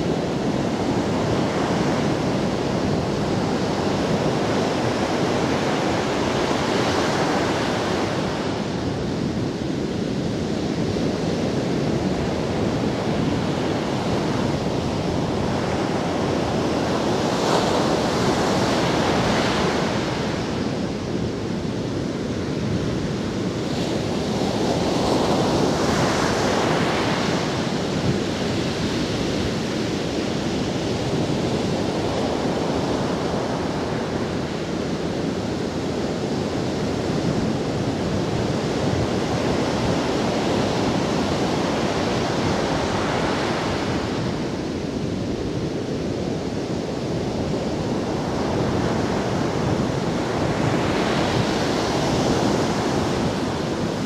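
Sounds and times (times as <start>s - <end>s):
surf washing up a sandy beach: 0.0s - 54.0s.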